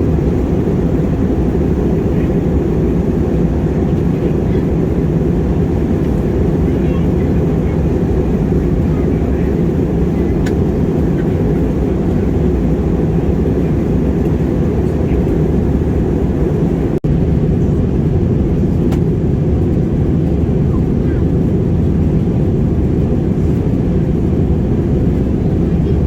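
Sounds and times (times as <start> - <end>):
jet airliner cabin noise: 0.0 - 26.0.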